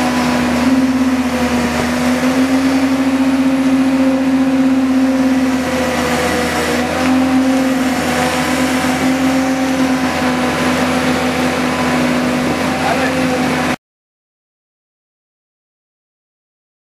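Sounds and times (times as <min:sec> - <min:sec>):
diesel machinery droning: 0:00.0 - 0:13.8.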